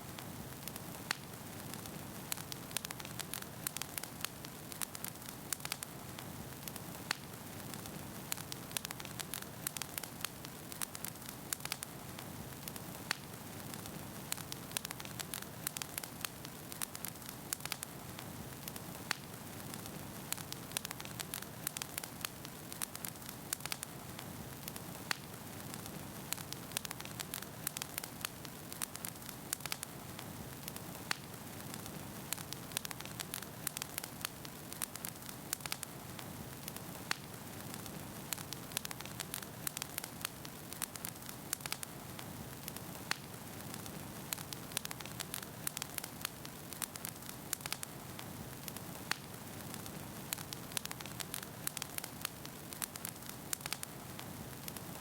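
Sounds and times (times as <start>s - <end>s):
logs crackling and popping: 0.1s - 55.0s.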